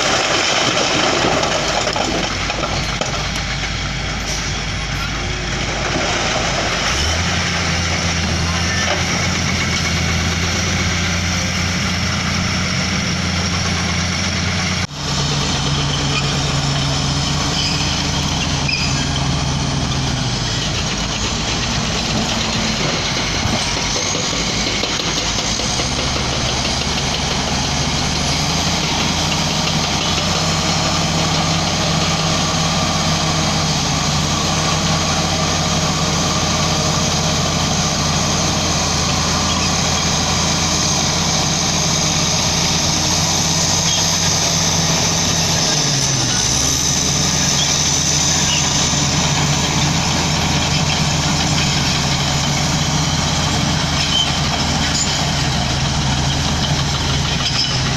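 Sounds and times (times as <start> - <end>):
diesel machinery engine running: 0.0 - 57.9.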